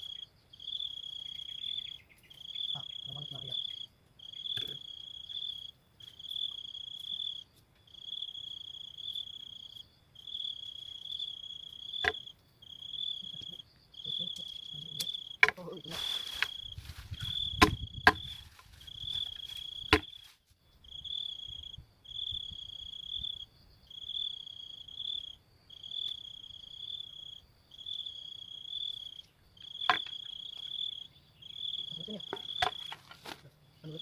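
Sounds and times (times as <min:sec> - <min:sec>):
insect trilling: 0:00.0 - 0:34.0.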